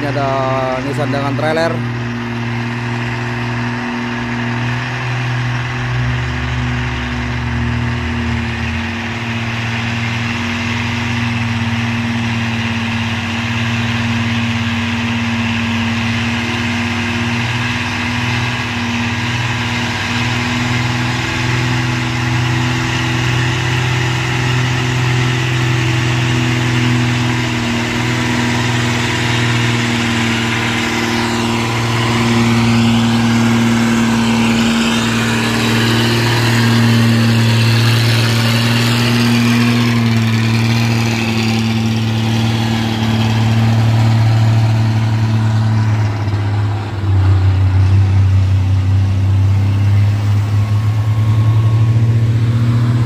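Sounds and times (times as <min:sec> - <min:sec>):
deeper rumble: 0:00.0 - 0:53.0
truck diesel engine drone: 0:00.0 - 0:53.0.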